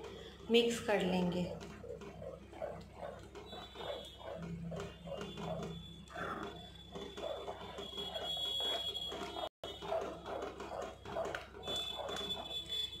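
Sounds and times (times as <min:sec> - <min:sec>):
metal spoon stirring in a pan: 0:00.0 - 0:13.0.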